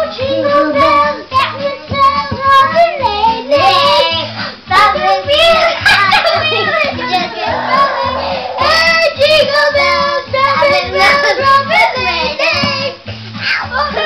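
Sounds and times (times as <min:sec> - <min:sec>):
boys singing into microphones: 0:00.0 - 0:13.1
karaoke backing track: 0:00.0 - 0:14.0.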